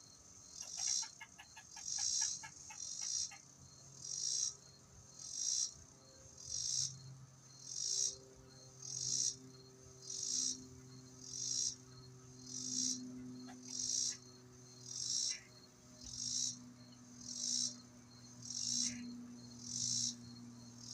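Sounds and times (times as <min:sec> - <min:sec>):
insect buzzing call: 0:00.0 - 0:20.9.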